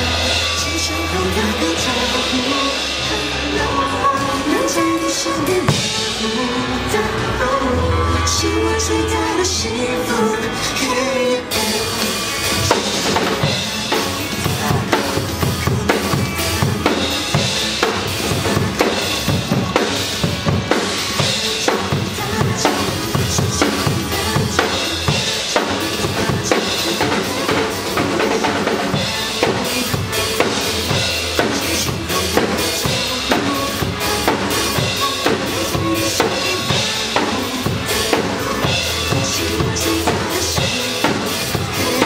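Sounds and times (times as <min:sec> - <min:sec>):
live band playing: 0:00.0 - 0:42.0.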